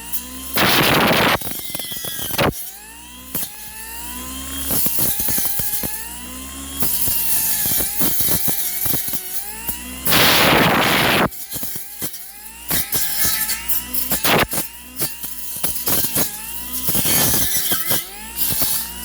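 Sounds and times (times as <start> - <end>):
brush cutter motor whining: 0.0 - 19.0.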